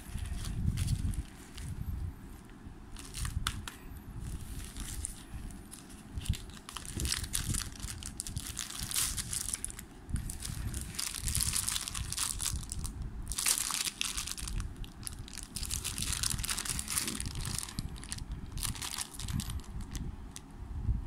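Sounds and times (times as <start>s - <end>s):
plastic bag crinkling: 0.0s - 1.8s, 3.0s - 20.4s.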